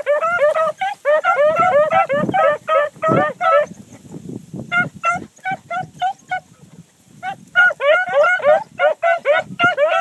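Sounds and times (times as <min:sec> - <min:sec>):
hounds barking: 0:00.0 - 0:03.8, 0:04.8 - 0:06.5, 0:07.2 - 0:10.0.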